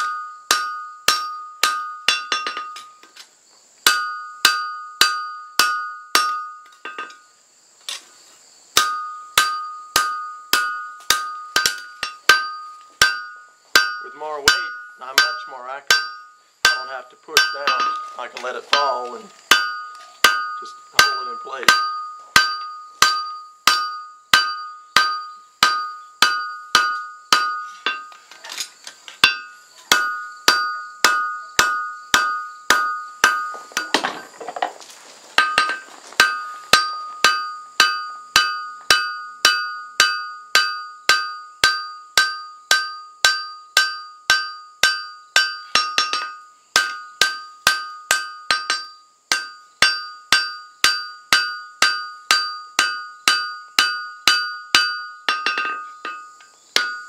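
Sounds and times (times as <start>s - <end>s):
hammer striking hot steel on anvil: 0.0s - 3.1s, 3.8s - 7.2s, 8.8s - 28.2s, 29.2s - 34.2s, 35.4s - 57.0s.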